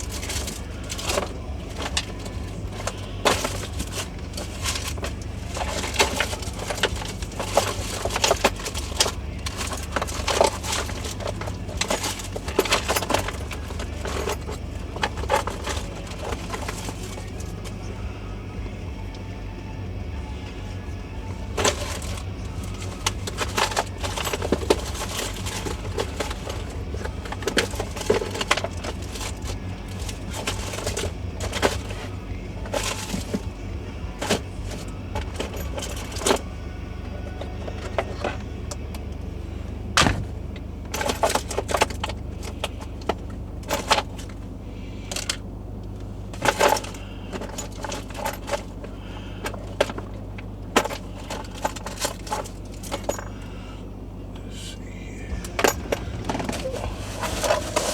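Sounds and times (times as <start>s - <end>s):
hand tools clinking: 0.0s - 57.9s
steady low hum: 0.0s - 57.9s.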